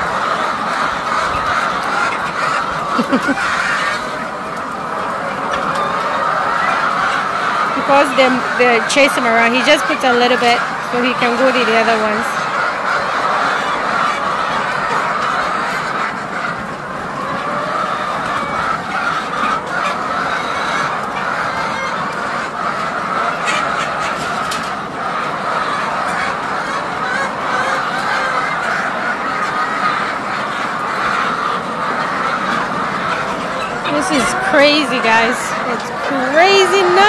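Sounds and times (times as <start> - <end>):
flock of hens clamouring: 0.0 - 37.0.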